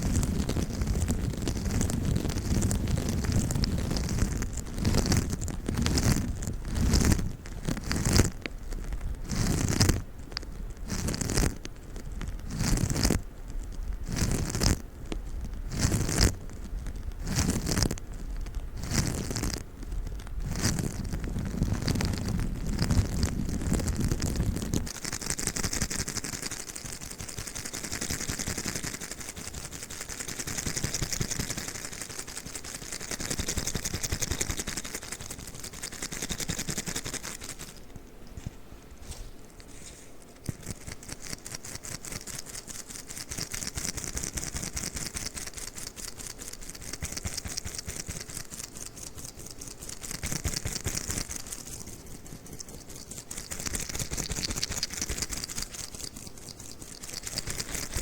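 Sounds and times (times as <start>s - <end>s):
sticky toy crackling and tapping: 0.0s - 38.6s, 39.5s - 58.0s.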